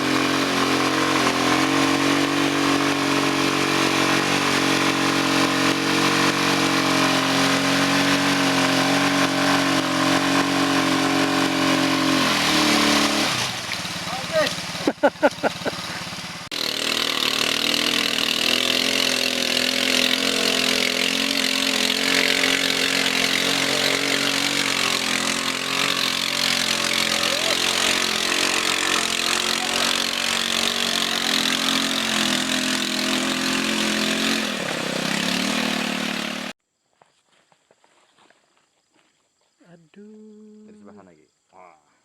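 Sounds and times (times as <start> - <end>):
small motorcycle engine running hard: 0.0 - 36.6.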